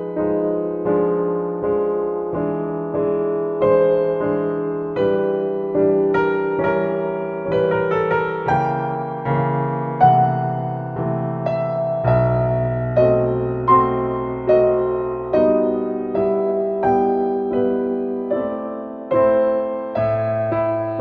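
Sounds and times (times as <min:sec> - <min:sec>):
slow gentle piano: 0:00.0 - 0:21.0.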